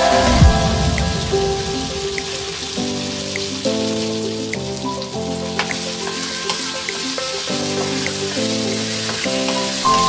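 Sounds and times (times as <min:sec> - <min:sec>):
background music held notes: 0:00.0 - 0:10.0.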